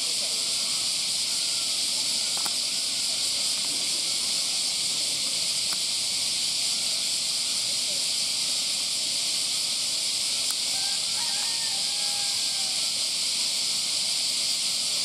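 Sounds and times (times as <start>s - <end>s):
cicada chorus: 0.0s - 15.0s.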